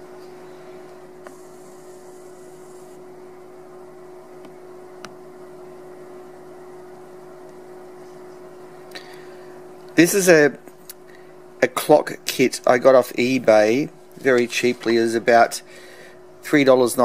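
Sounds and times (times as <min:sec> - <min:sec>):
room tone hum: 0:00.0 - 0:17.0.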